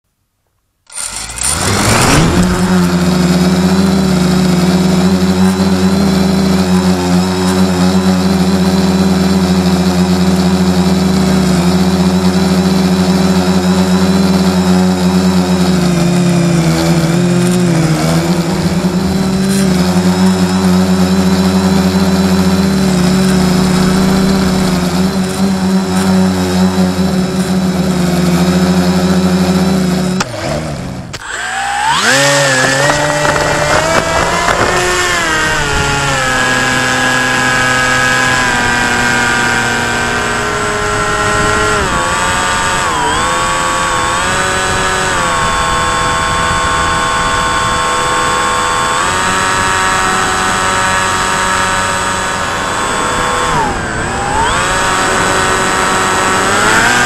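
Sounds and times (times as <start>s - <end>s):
electric motor and propeller drone: 0.9s - 57.0s.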